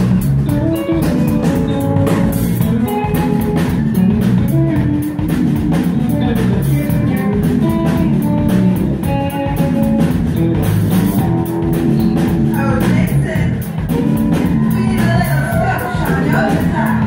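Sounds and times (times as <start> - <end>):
live soul band playing: 0.0 - 17.0.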